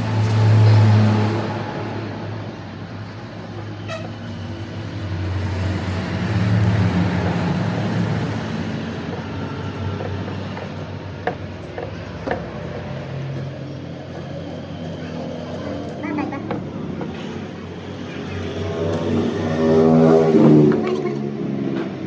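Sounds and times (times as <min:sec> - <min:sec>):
heavy machine humming: 0:00.0 - 0:22.0.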